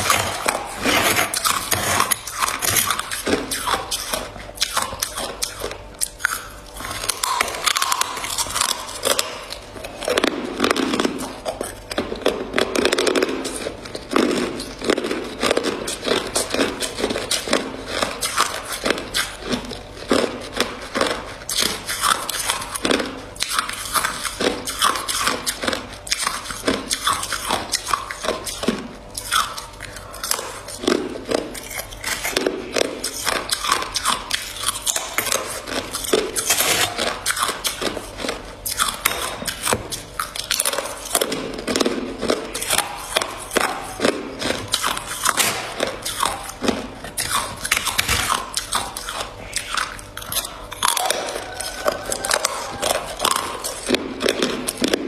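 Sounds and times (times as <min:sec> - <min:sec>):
person chewing ice: 0:00.0 - 0:55.0.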